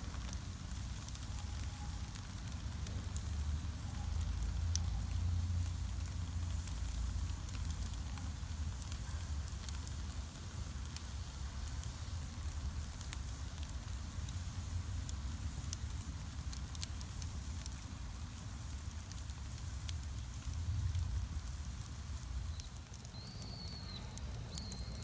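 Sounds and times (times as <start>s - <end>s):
bonfire crackling and popping: 0.0s - 25.0s
steady low rumble: 0.0s - 25.0s.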